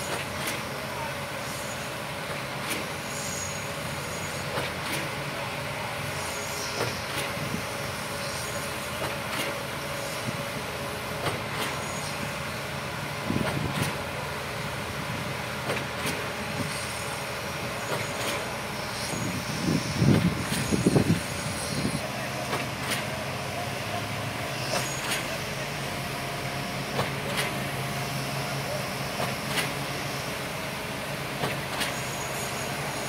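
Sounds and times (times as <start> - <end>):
concrete pump drone: 0.0 - 33.0.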